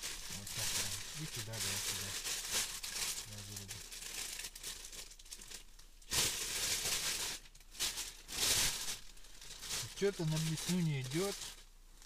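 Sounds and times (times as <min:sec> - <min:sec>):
packaging rustling: 0:00.0 - 0:11.7.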